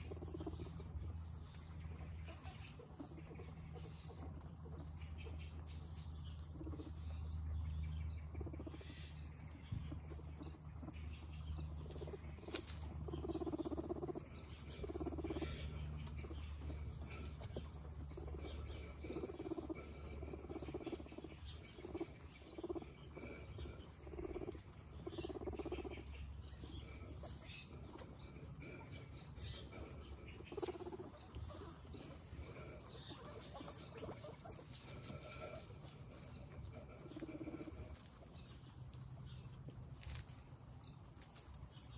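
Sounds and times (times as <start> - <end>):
guinea pigs crunching carrots: 0.0 - 41.9.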